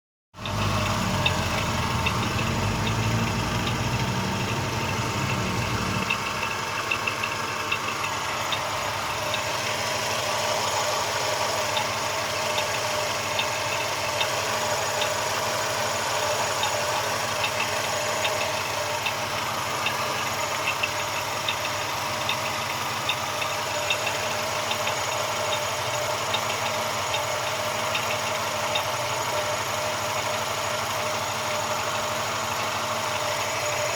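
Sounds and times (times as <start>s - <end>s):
car engine idling with knock: 0.3s - 33.9s.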